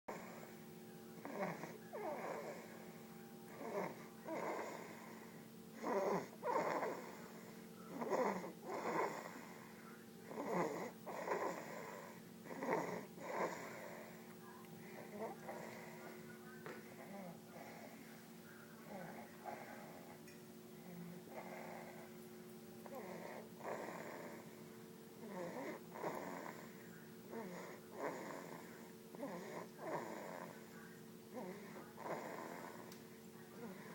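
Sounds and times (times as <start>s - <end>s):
baby snoring: 0.1s - 0.6s, 1.2s - 2.8s, 3.5s - 14.2s, 14.8s - 16.2s, 16.9s - 18.0s, 18.8s - 20.2s, 20.8s - 22.2s, 22.8s - 32.9s, 33.5s - 33.9s
faint steady hum: 0.1s - 33.9s.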